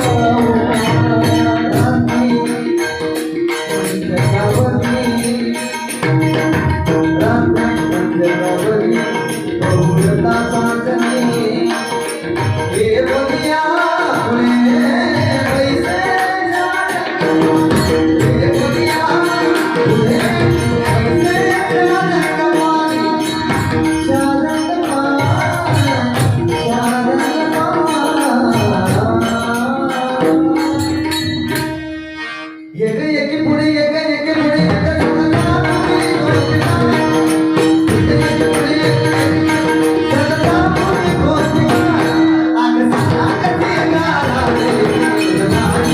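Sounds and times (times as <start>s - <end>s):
jingling percussion: 0.0s - 45.9s
man singing devotional song: 0.0s - 45.9s.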